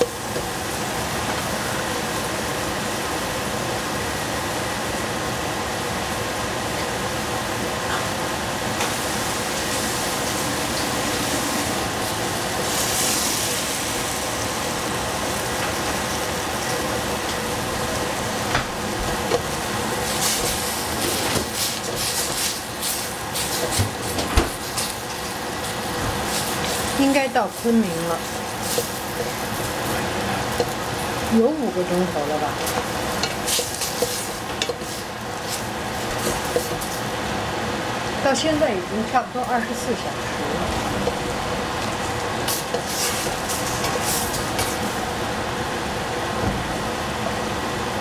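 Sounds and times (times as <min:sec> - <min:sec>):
food sizzling in a pot: 0:00.0 - 0:46.4.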